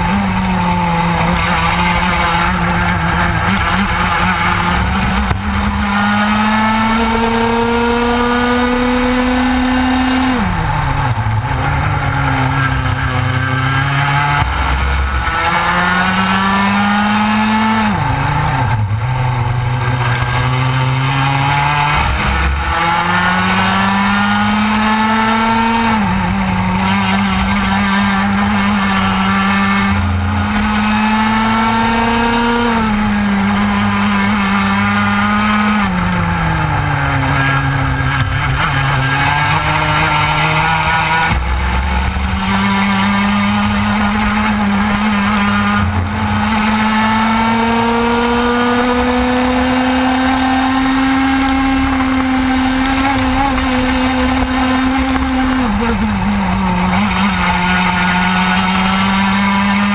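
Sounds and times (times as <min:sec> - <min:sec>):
kart engine at race speed: 0:00.0 - 0:59.9.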